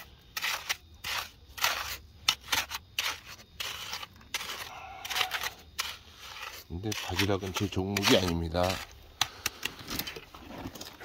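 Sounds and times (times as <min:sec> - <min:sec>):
rake scraping through gravelly mud: 0:00.0 - 0:11.0.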